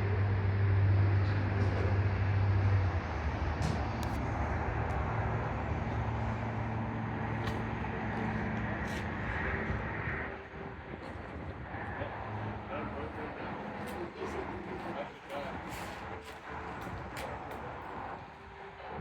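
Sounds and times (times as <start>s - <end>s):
heavy vehicle engine running: 0.0s - 19.0s.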